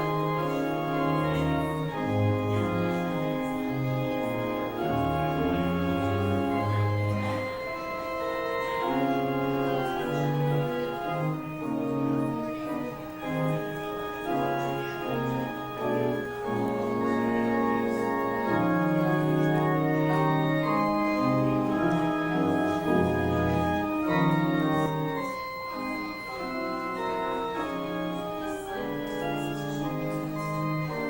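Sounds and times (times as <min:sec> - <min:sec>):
organ music: 0:00.0 - 0:31.0.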